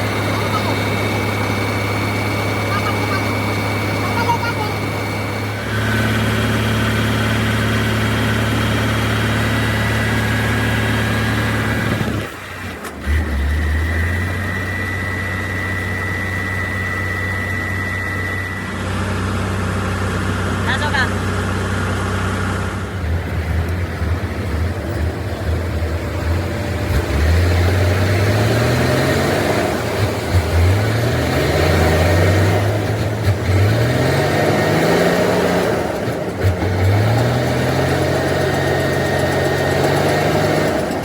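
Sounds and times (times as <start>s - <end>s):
truck engine shifting gears: 0.0s - 41.0s.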